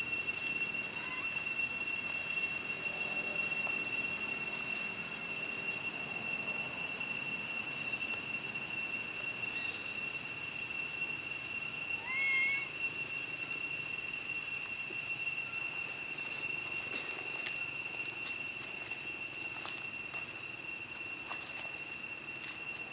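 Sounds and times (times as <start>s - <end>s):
insect chirp: 0.0s - 22.9s
insect chorus droning: 0.0s - 22.9s.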